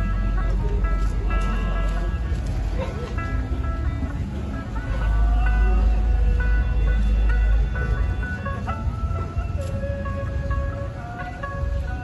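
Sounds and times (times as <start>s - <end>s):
music of held melodic notes: 0.0s - 12.0s.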